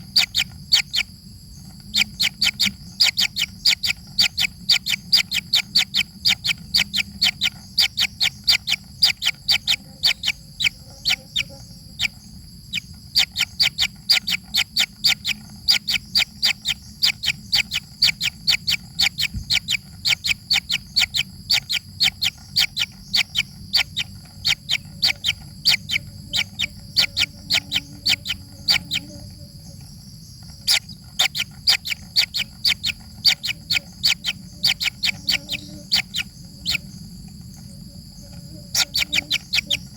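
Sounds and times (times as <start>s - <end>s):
baby birds chirping: 0.0s - 39.9s.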